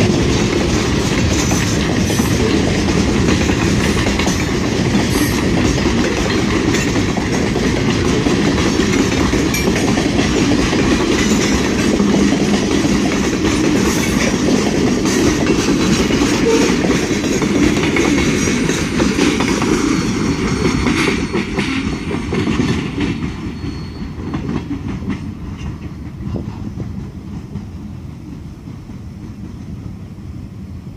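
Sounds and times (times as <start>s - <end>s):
wheels clicking over rail joints: 0.0s - 29.6s
freight train rumbling past: 0.0s - 30.9s.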